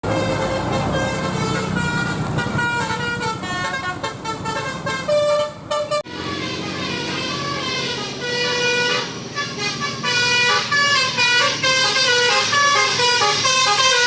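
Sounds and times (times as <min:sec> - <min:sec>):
bus musical air horn tune: 0:00.0 - 0:14.0
engine rumbling: 0:00.0 - 0:14.0.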